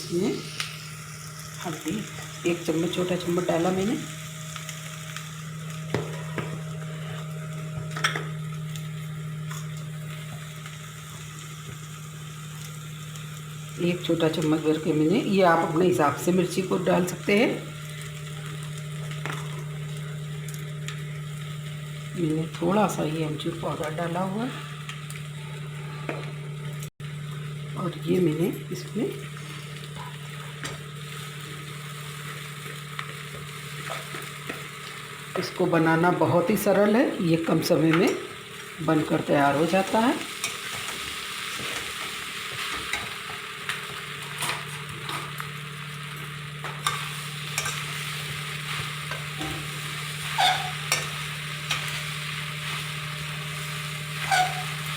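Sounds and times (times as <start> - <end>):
vegetables frying in oil: 0.0 - 54.9.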